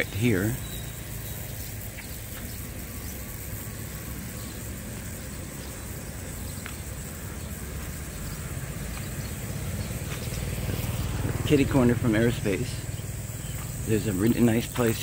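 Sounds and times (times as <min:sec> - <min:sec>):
street low rumble: 0:00.0 - 0:15.0.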